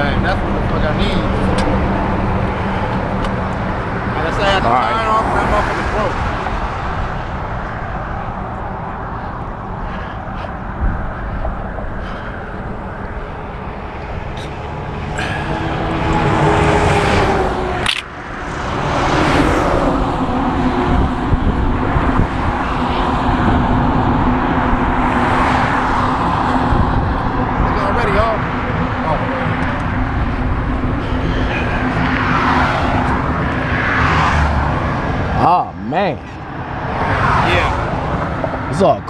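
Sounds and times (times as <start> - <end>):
highway traffic passing: 0.0 - 39.0.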